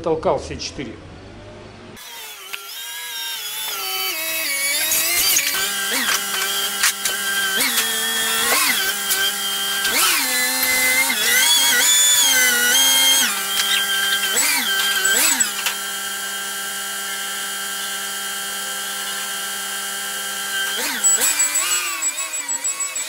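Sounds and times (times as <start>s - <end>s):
forklift engine whining: 1.3s - 23.0s.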